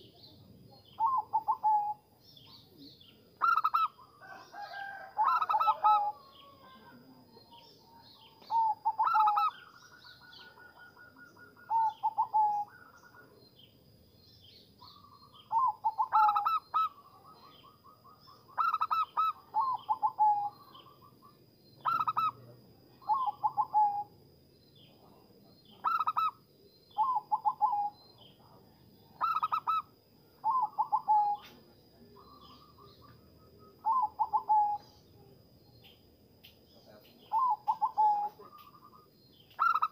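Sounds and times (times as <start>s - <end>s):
dove cooing with trills: 0.8s - 13.4s, 14.8s - 22.4s, 23.0s - 24.1s, 25.7s - 28.3s, 29.1s - 35.3s, 37.2s - 39.9s.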